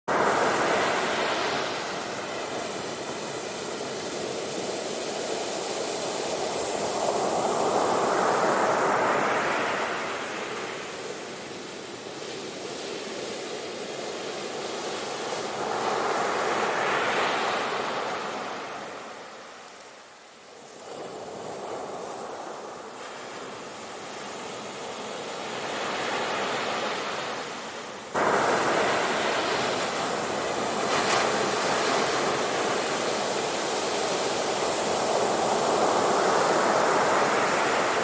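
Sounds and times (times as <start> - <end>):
waves breaking on shore: 0.1 - 38.0.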